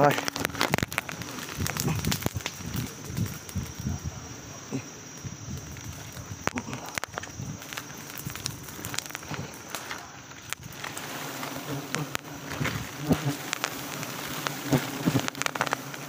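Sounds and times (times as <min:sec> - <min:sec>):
scattered clicks: 0:00.0 - 0:04.0, 0:05.1 - 0:16.0
bees buzzing: 0:00.0 - 0:16.0.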